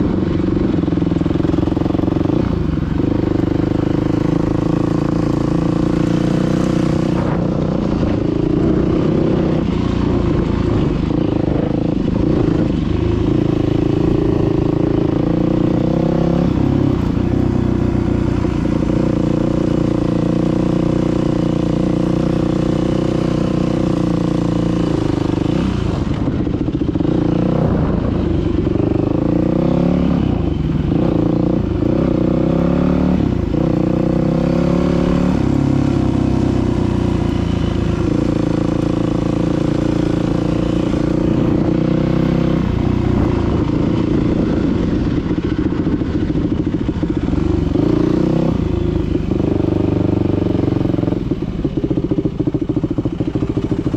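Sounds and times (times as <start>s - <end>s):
dirt bike engine revving: 0.0s - 51.2s.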